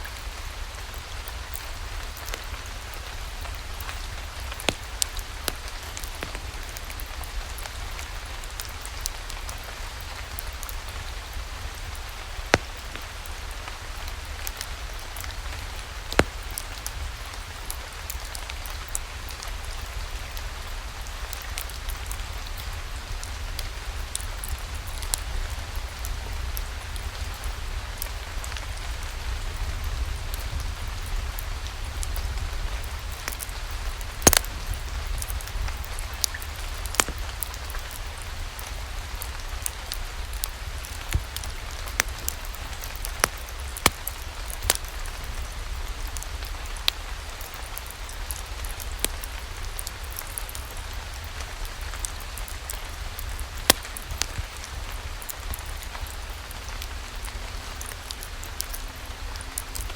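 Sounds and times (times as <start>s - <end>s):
steady rain hiss: 0.0s - 59.9s
wood fire crackling: 0.1s - 29.0s, 29.8s - 59.9s.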